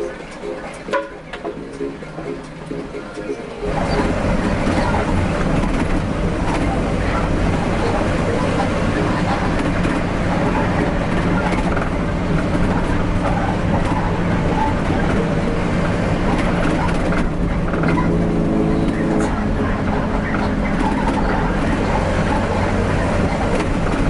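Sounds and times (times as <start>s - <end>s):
bus diesel engine running: 0.0s - 24.0s
pitched hum: 0.0s - 24.0s
tyre and road noise: 0.0s - 24.0s.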